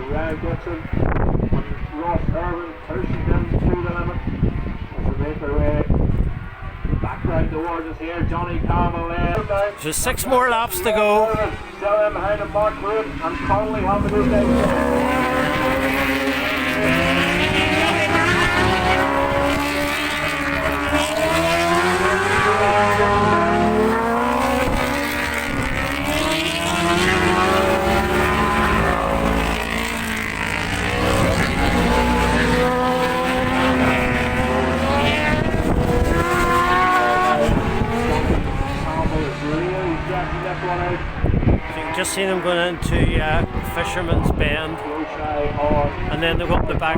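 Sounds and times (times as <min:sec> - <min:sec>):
racing motorcycles passing: 0:00.0 - 0:46.9.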